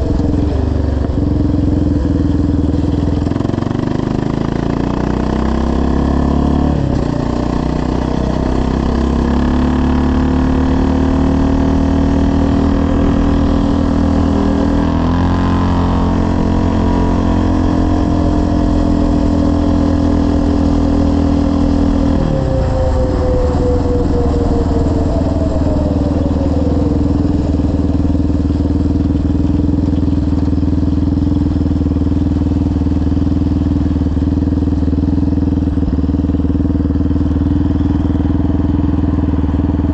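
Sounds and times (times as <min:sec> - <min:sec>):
quad engine running under load: 0:00.0 - 0:39.9.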